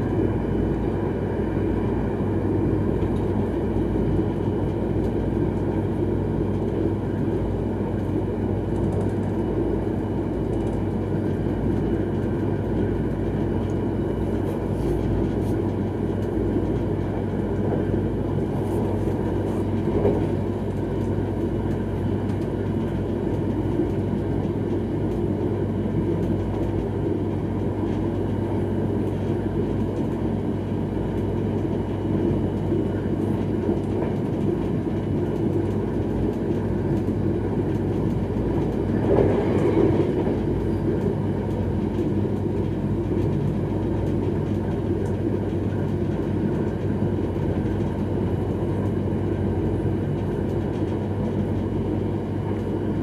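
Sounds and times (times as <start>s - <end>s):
constant low hum: 0.0s - 53.0s
train wheels rumbling on rails: 0.0s - 53.0s.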